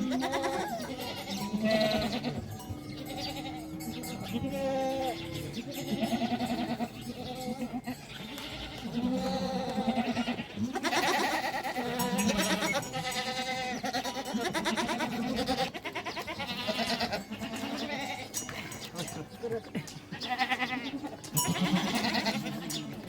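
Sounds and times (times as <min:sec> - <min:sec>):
livestock bleating: 0:00.0 - 0:23.0.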